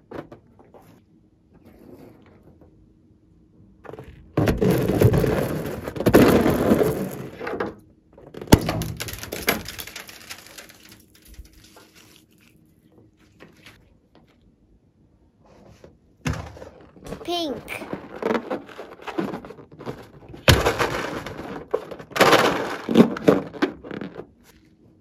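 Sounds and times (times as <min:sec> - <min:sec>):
handling noises: 0:03.8 - 0:14.5, 0:15.5 - 0:25.0.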